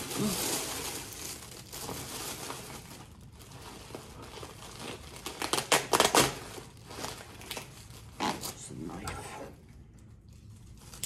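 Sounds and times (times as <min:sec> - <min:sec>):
packaging wrap crinkling: 0:00.0 - 0:11.0.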